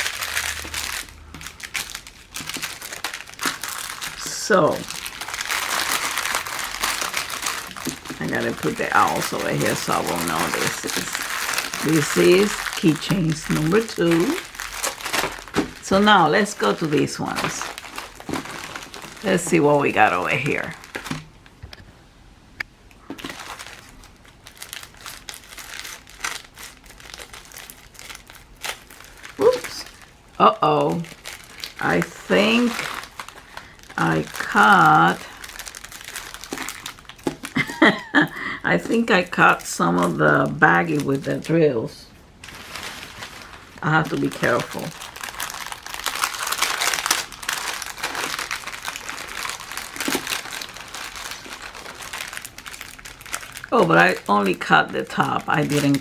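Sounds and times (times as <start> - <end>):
plastic bag crinkling: 0.0 - 21.7, 23.0 - 56.0.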